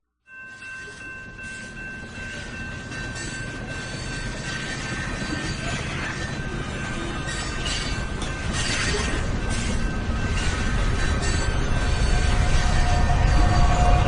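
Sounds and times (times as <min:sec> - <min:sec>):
train rumble: 0:00.3 - 0:14.0.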